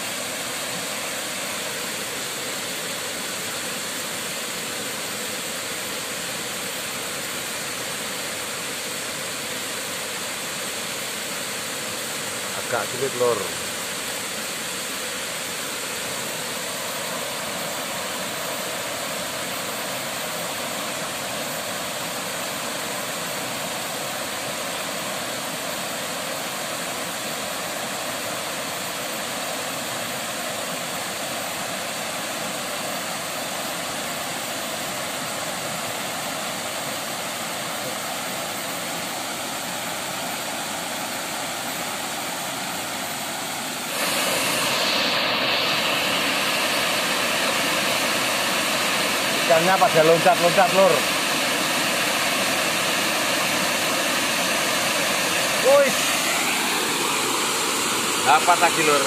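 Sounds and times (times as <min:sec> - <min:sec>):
water pouring over cascade: 0:00.0 - 0:59.0.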